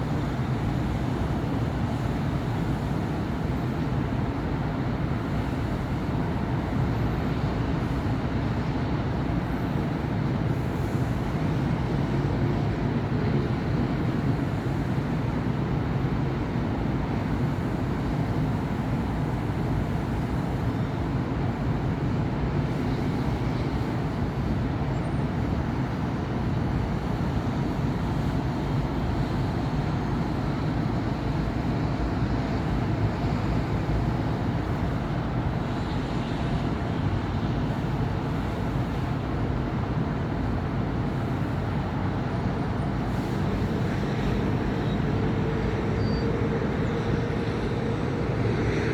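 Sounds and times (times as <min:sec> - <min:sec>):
city road traffic: 0:00.0 - 0:48.9.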